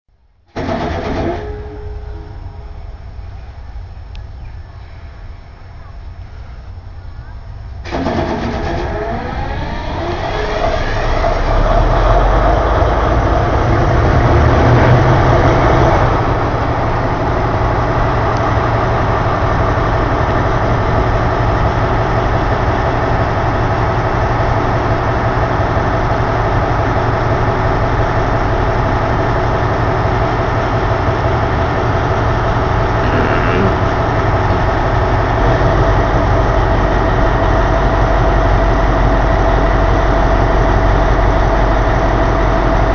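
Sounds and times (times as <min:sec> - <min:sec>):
locomotive diesel engine: 0:00.6 - 0:42.9.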